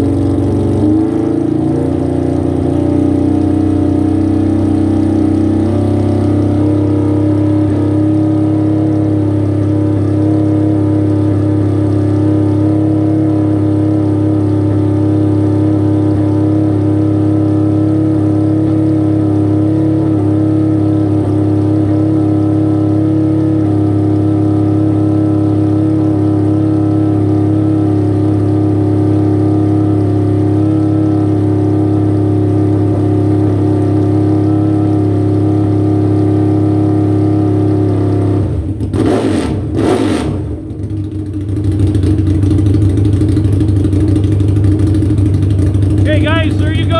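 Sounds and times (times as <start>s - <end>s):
motorcycle engine running: 0.0s - 35.6s, 40.7s - 46.9s.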